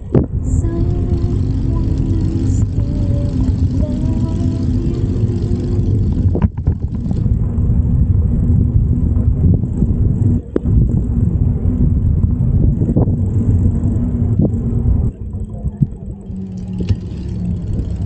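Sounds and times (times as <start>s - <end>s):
wind and road noise rumble: 0.0s - 18.0s.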